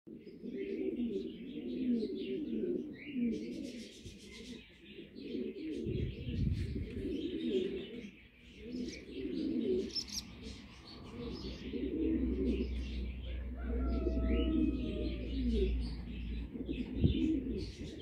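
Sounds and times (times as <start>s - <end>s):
low cooing of doves: 0.1s - 18.0s
small birds chirping: 0.1s - 18.0s.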